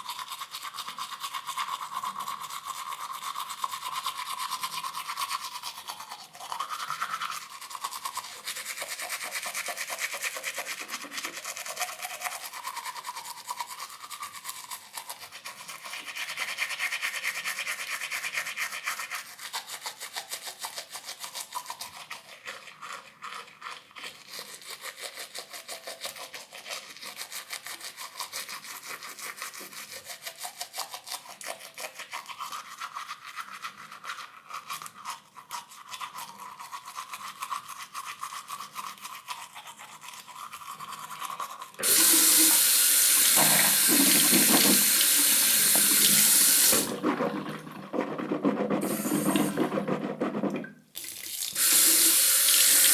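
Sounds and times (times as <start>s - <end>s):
teeth brushing with toothbrush: 0.0s - 52.9s.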